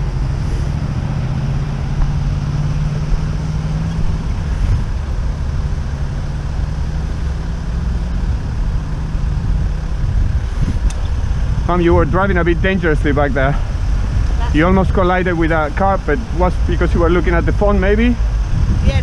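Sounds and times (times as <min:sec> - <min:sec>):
low drone: 0:00.0 - 0:19.0
traffic engines idling: 0:00.0 - 0:19.0.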